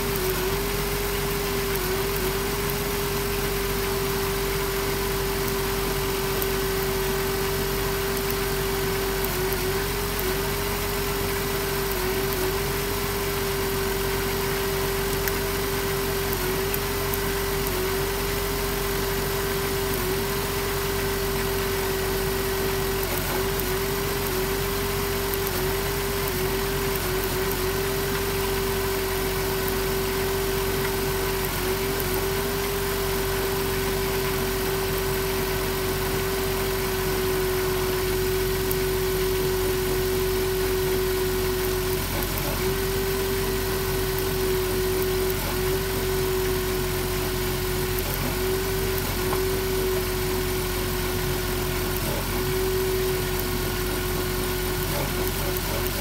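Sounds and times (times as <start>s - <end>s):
engine idling rough: 0.0s - 56.0s
steady whine: 0.0s - 56.0s.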